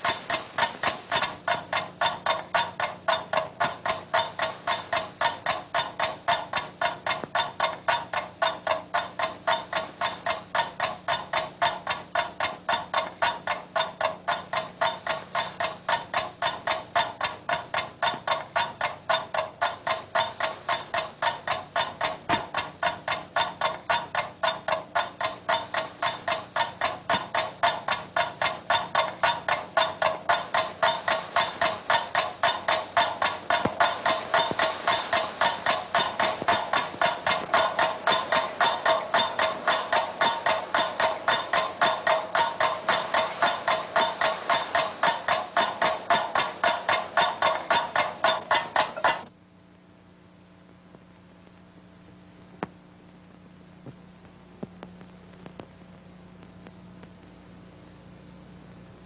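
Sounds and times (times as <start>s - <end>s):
clock ticking: 0.0s - 49.3s.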